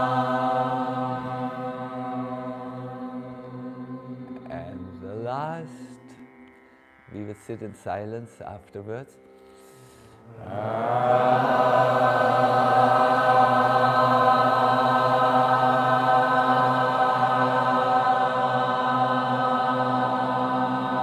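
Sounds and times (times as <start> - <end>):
mantra chant on one pitch: 0.0 - 6.3, 7.1 - 9.2, 10.2 - 21.0.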